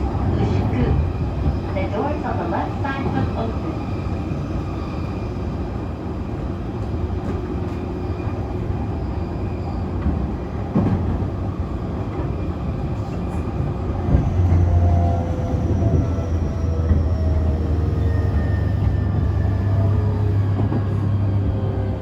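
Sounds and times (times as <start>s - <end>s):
train wheel and rail rumble: 0.0s - 22.0s.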